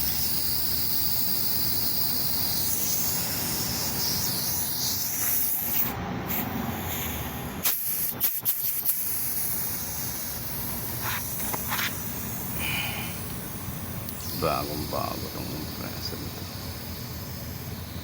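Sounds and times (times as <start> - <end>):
pressurized gas hissing: 0.0 - 18.0.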